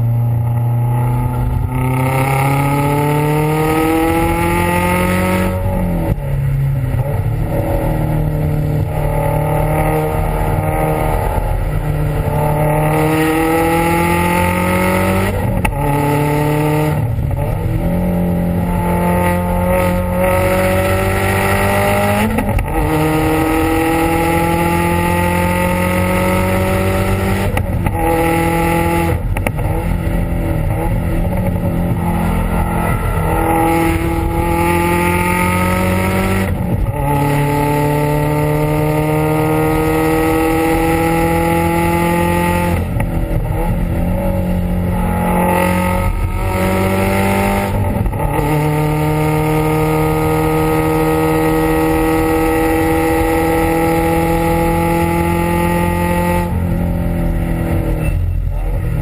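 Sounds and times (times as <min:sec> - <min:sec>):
car exhaust under hard acceleration: 0:00.0 - 0:59.0.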